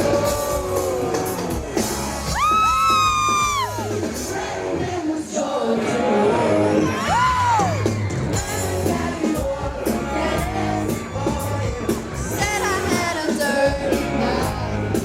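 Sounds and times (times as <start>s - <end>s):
crowd yelling: 0.0s - 15.0s
live pop band with singer: 0.0s - 15.0s.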